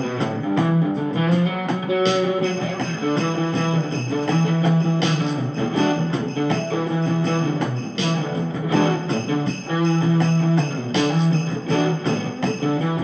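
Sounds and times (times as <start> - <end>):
instrumental music: 0.0 - 13.0.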